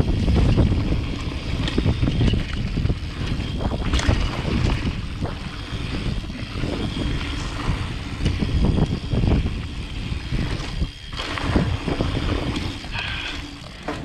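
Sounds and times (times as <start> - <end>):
mountain bike rattling: 0.0 - 14.0
wind rushing over microphone: 0.0 - 14.0.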